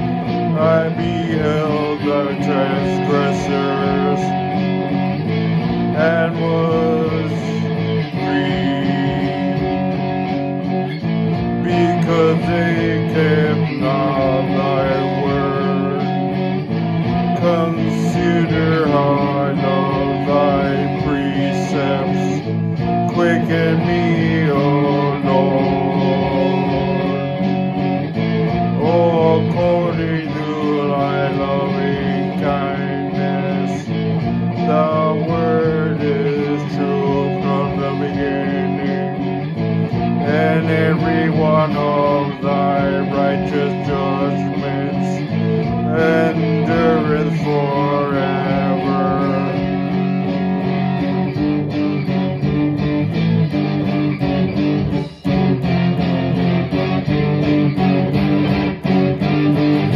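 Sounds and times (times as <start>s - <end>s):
man singing: 0.0s - 16.4s, 17.1s - 27.8s, 28.6s - 50.9s
guitar playing: 0.0s - 59.9s.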